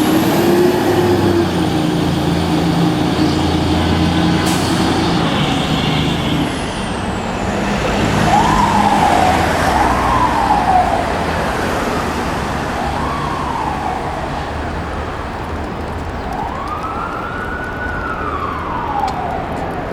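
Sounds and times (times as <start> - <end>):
fire engine siren wailing: 0.0 - 19.9
truck engine rumble: 0.0 - 19.9.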